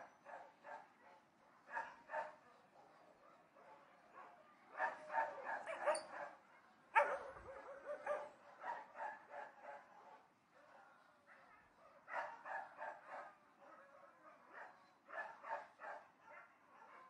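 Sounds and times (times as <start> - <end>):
distant dogs barking: 0.0 - 10.3, 11.4 - 17.0.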